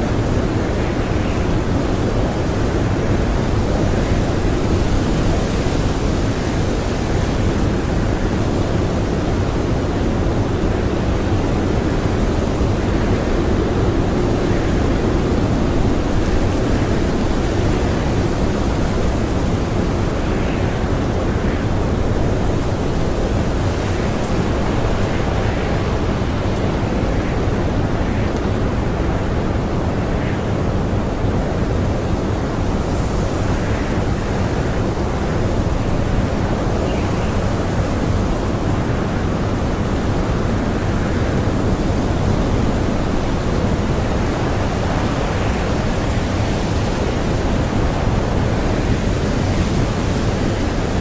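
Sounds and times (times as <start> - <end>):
blizzard wind blowing: 0.0 - 51.0.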